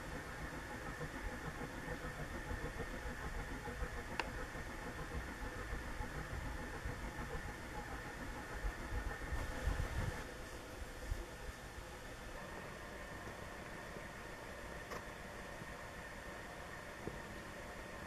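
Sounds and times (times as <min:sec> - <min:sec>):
ceiling fan motor rumbling: 0:00.0 - 0:18.0.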